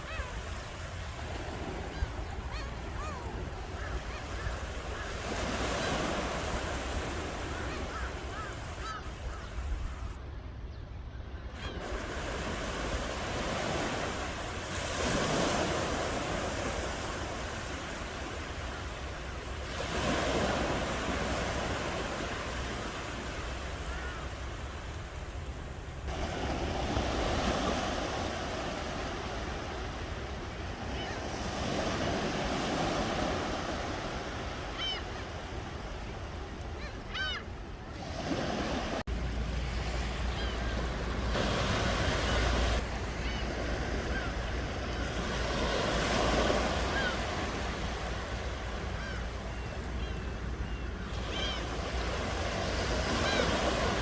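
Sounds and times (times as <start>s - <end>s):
sea waves breaking on shore: 0.0s - 10.2s, 11.5s - 54.0s.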